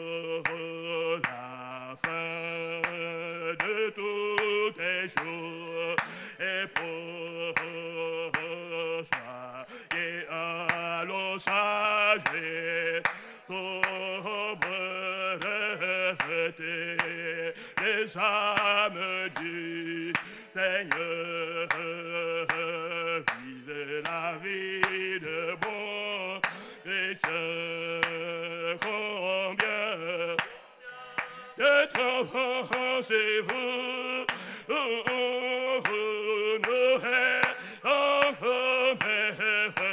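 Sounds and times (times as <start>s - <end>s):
hand claps: 0.0s - 39.9s
man singing a hymn: 0.0s - 39.9s.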